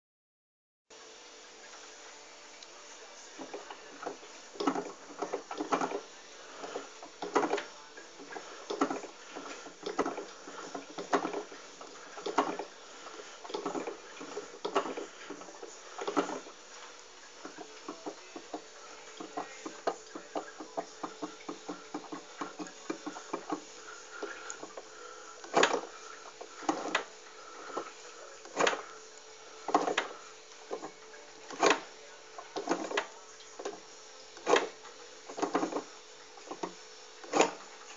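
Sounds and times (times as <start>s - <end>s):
faint steady hum: 0.9s - 37.9s.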